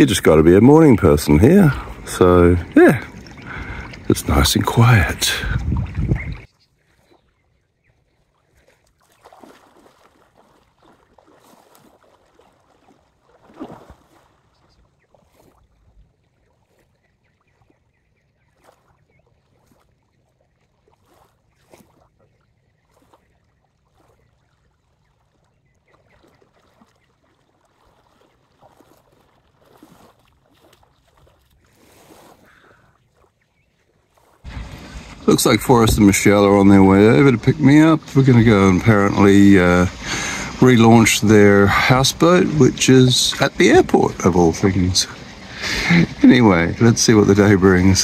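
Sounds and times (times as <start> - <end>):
person wading through water: 0.0 - 48.0
small waves lapping on shore: 0.0 - 48.0.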